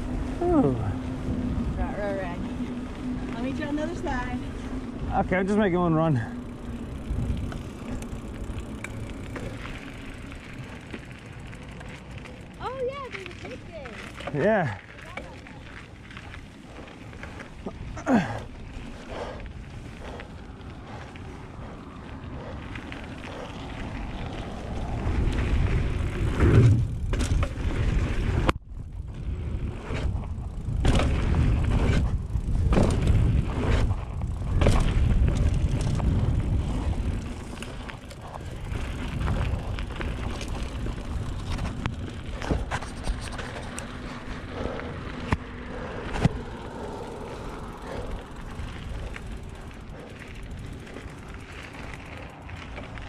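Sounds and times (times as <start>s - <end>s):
wind rumble on microphone: 0.0s - 13.4s, 15.0s - 53.0s
bike clattering over bumps: 0.0s - 53.0s
tyre noise: 0.0s - 53.0s.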